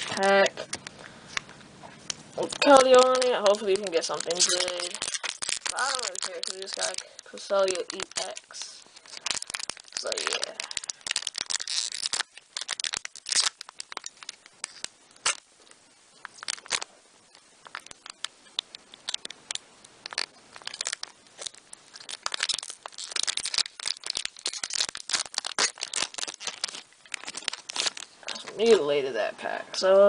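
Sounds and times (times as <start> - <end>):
foil wrapper tearing and crinkling: 2.0 - 28.9.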